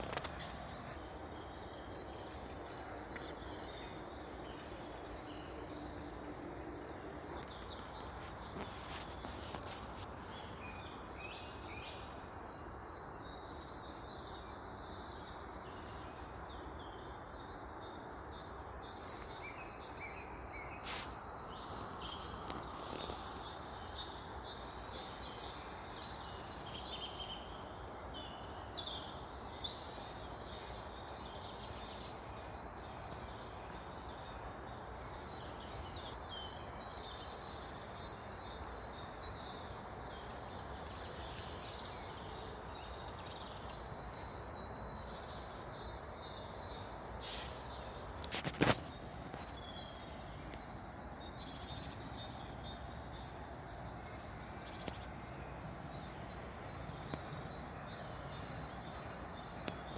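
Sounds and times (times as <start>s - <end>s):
outdoor background rush: 0.0s - 59.9s
songbirds chirping and singing: 0.0s - 59.9s.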